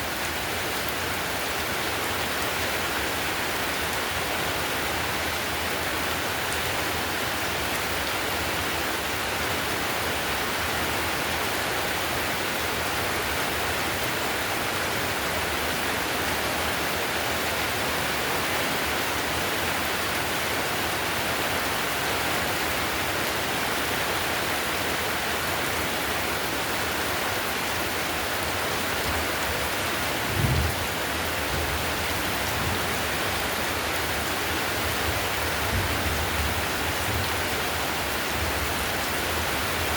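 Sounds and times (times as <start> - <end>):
heavy rain on a tile roof: 0.0 - 39.9.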